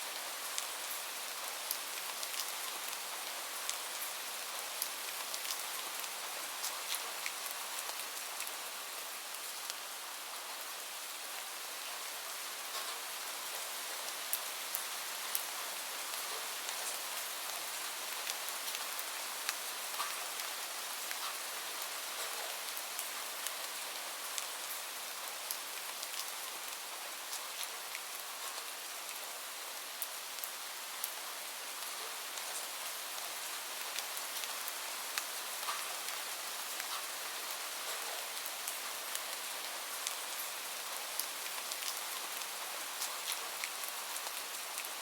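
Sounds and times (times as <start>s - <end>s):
steady rain: 0.0s - 45.0s.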